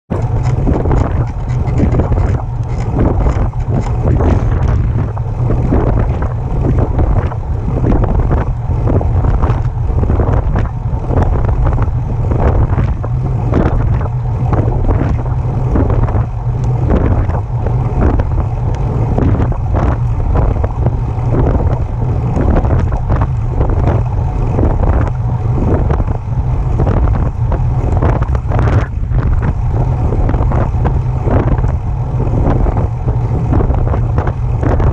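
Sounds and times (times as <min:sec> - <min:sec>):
electric bike pulsing noise: 0:00.1 - 0:34.9
wind rumble on microphone: 0:00.1 - 0:34.9.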